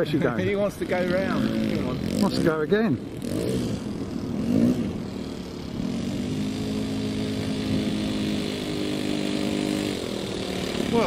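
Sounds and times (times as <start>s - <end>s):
model aircraft engine running: 0.0s - 11.0s.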